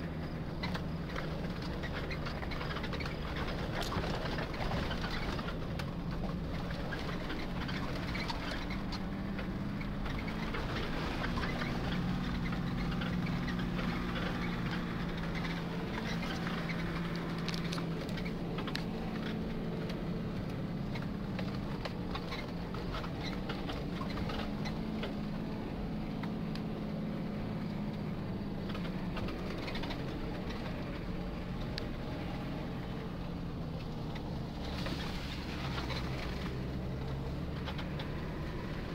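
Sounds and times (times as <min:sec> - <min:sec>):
car engine running at low speed: 0:00.0 - 0:38.9
clicks and rattles over rough ground: 0:00.0 - 0:38.9.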